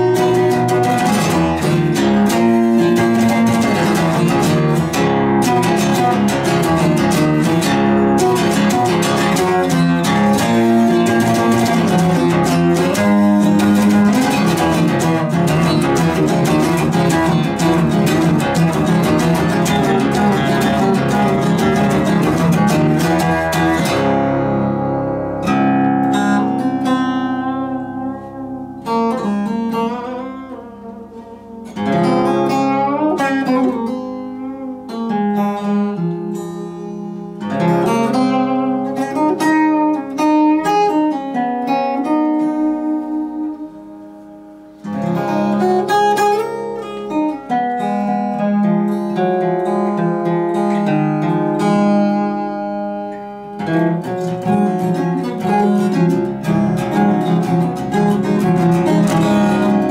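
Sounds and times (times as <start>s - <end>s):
acoustic guitar plucking: 0.0s - 59.9s.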